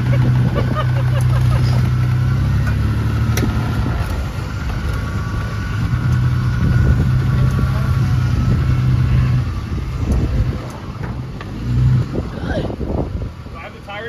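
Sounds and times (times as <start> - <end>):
truck engine low drone: 0.0 - 14.0.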